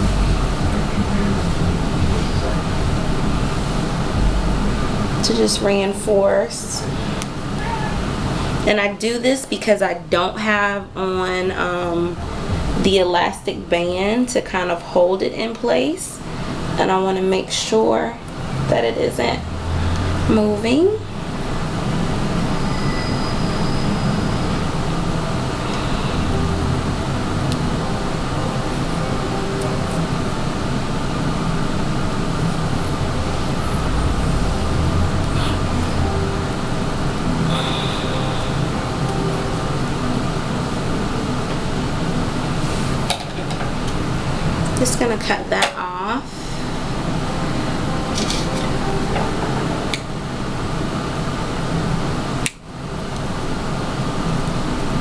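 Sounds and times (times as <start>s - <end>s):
steady rushing noise: 0.0s - 14.6s, 15.4s - 55.0s
low hum: 0.0s - 55.0s
whirring fan-like room noise: 0.0s - 55.0s.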